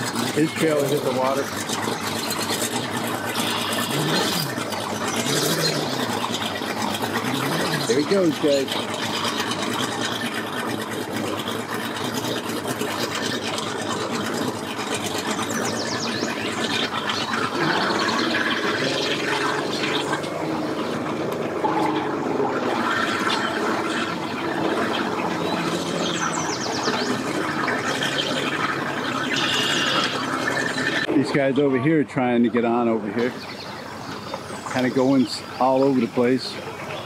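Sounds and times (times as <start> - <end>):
outboard motor humming: 0.0 - 37.0
propeller churning water: 0.0 - 37.0.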